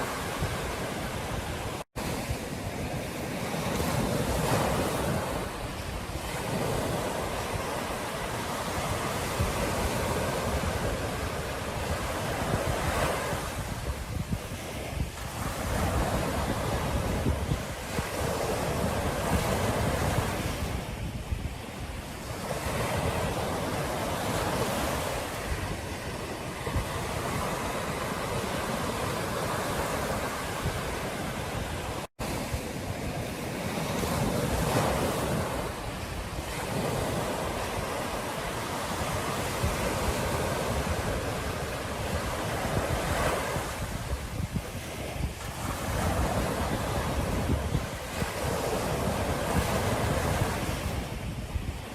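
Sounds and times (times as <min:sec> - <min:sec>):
ocean surf breaking: 0:00.0 - 0:51.9
wind buffeting microphone: 0:00.0 - 0:51.9.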